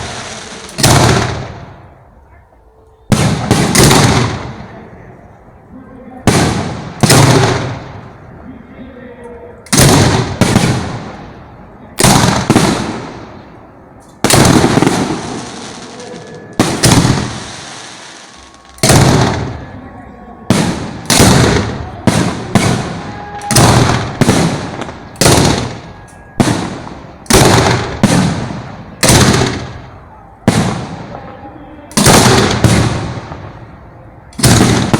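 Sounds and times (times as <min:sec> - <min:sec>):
fireworks bangs: 0:00.0 - 0:02.1, 0:03.1 - 0:05.0, 0:06.2 - 0:08.3, 0:09.7 - 0:34.9.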